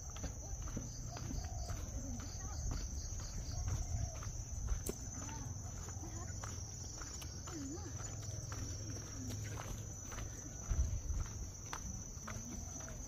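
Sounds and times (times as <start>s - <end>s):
footsteps on a path: 0.0s - 13.0s.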